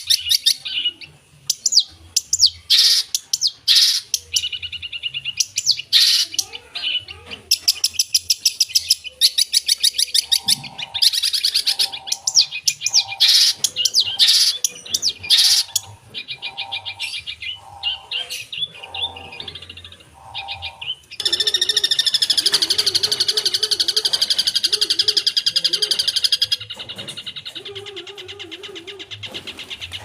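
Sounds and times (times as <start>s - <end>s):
shrike singing trills and whistles: 0.0s - 6.5s, 7.8s - 26.6s.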